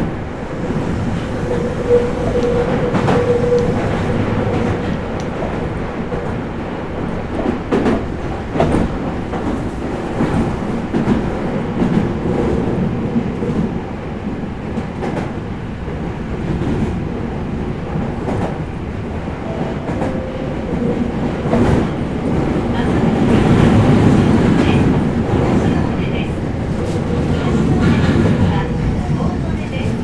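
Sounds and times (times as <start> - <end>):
rumble of train wheels and motors: 0.0 - 30.0.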